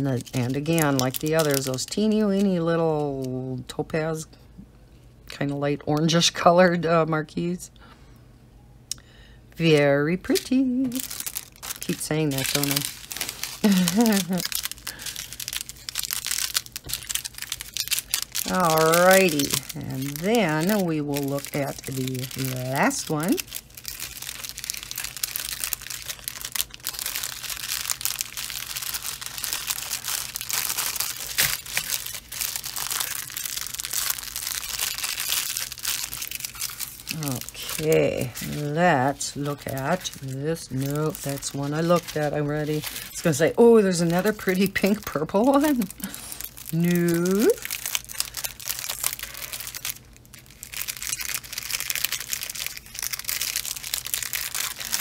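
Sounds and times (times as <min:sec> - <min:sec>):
plastic bags crinkling: 0:00.0 - 0:03.3, 0:09.6 - 0:55.0.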